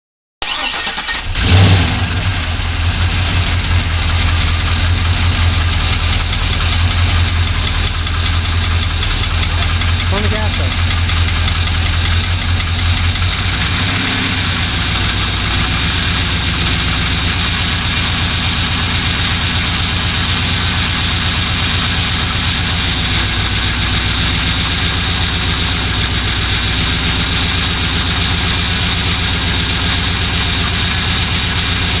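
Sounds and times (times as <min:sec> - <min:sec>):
car engine idling with knock: 0:01.9 - 0:32.0.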